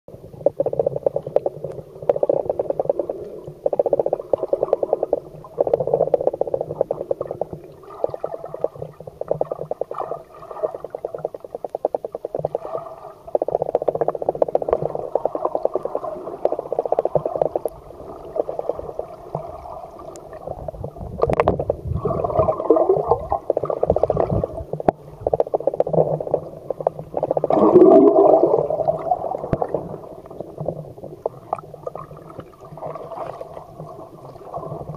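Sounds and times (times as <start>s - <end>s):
buzzing underwater rattle: 0.1s - 34.9s.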